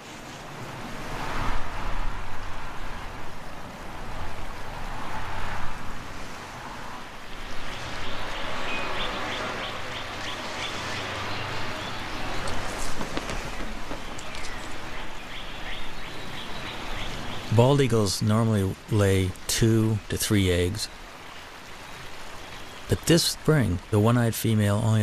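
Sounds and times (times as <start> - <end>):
wind gusting: 0.0 - 24.0.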